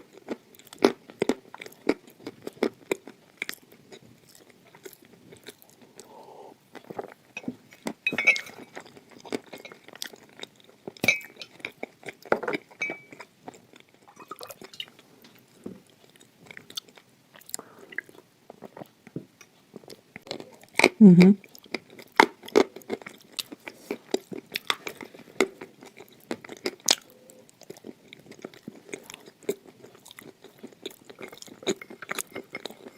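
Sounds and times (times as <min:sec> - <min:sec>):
person chewing crunchy clay: 0:00.0 - 0:32.9.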